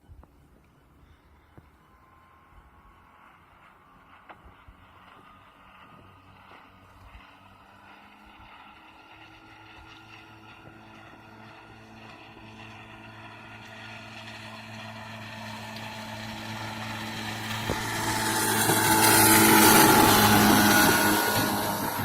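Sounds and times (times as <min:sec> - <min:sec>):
outboard motor running: 0:00.4 - 0:22.0.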